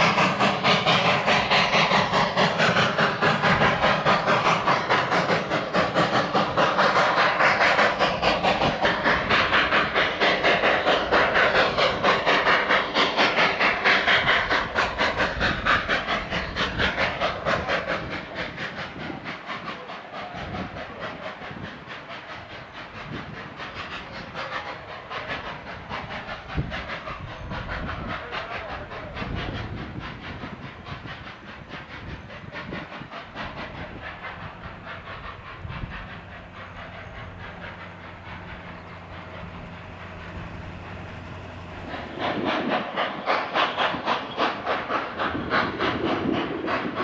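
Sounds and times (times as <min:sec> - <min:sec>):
steam hissing: 0:00.0 - 0:47.0
steam locomotive chuffing: 0:00.0 - 0:47.0.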